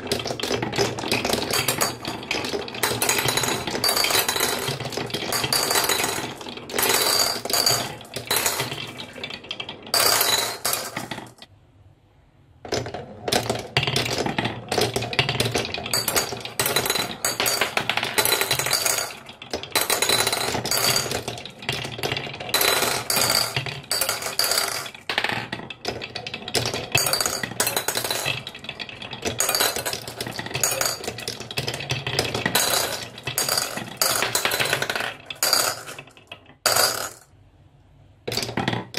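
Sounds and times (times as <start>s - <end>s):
marbles rolling on wooden tracks: 0.0s - 11.5s, 12.6s - 37.4s, 38.3s - 38.9s.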